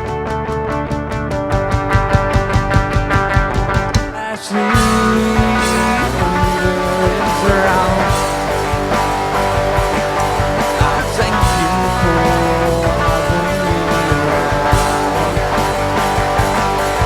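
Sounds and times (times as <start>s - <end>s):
bass guitar: 0.0s - 17.0s
guitars: 0.0s - 17.0s
steady drum beat: 0.7s - 17.0s.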